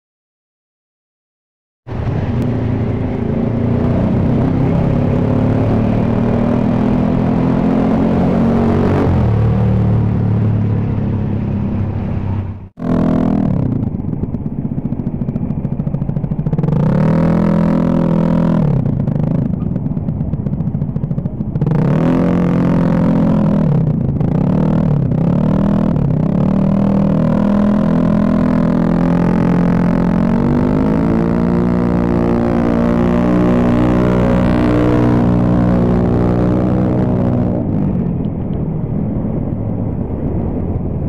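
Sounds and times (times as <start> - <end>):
scooter engine revving: 1.9 - 38.6.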